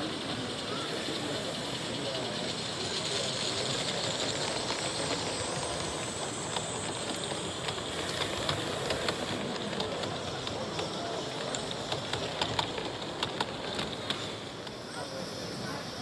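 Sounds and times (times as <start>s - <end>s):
model steam locomotive hissing: 0.0s - 16.0s
wheels clicking on track: 0.0s - 16.0s.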